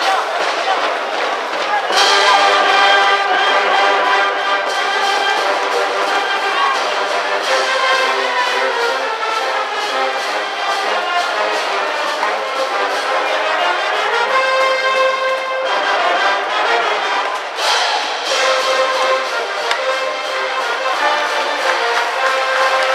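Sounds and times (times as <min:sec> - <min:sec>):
brass band playing cheering tune: 0:00.0 - 0:22.9.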